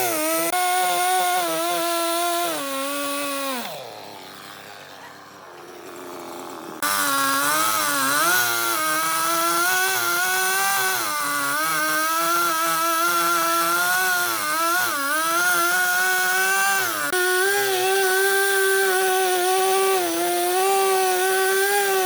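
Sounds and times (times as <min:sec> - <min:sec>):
power tool cutting wood: 0:00.0 - 0:22.0.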